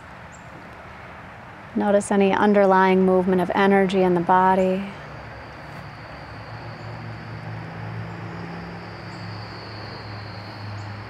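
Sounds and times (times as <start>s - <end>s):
insects droning: 0.0s - 11.0s
low steady hum: 0.0s - 11.0s.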